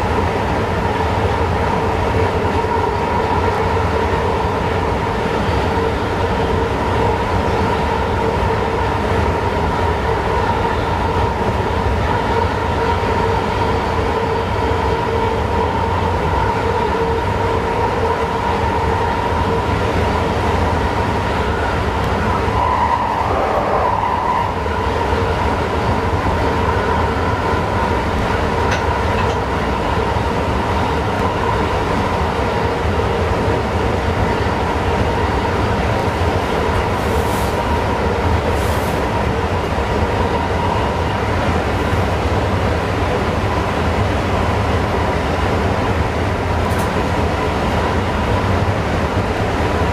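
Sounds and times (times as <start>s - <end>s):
constant whine: 0.0s - 49.9s
train rumble: 0.0s - 49.9s.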